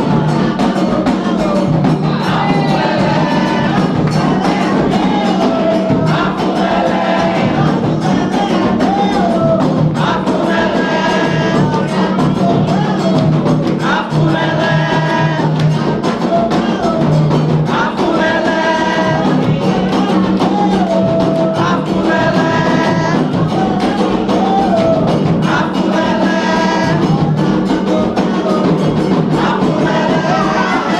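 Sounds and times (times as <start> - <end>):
group of voices chanting: 0.0 - 30.9
hand drumming and percussion: 0.0 - 30.9.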